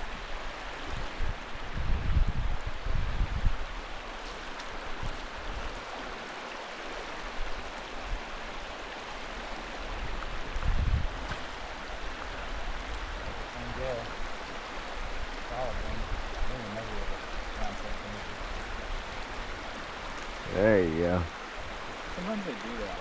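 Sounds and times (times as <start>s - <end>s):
flowing river water: 0.0s - 23.0s.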